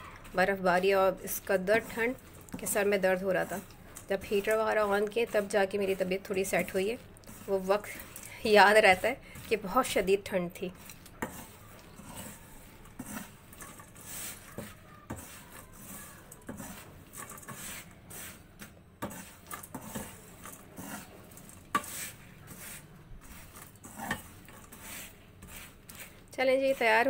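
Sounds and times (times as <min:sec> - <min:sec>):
peanuts and salt rattling in a pan: 0:00.3 - 0:18.4, 0:19.0 - 0:27.0.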